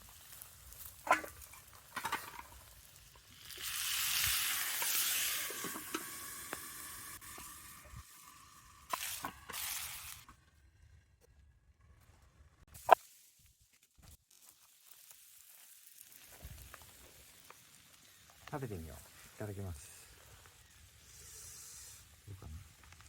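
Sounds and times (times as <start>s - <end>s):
sauce sizzling in hot pan: 0.0s - 10.4s, 14.1s - 23.0s.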